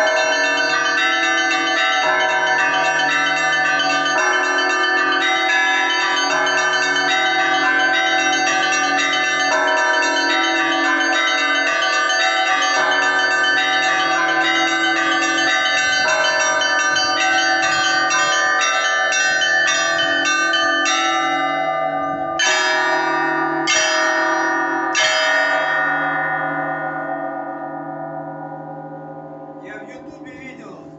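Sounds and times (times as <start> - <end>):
church bells pealing: 0.0 - 30.9.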